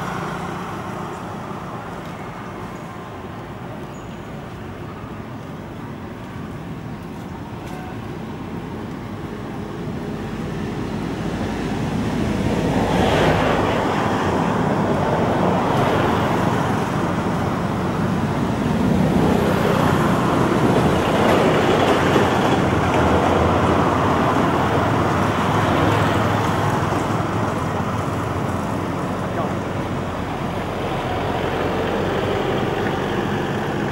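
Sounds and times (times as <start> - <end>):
road traffic passing: 0.0 - 33.9.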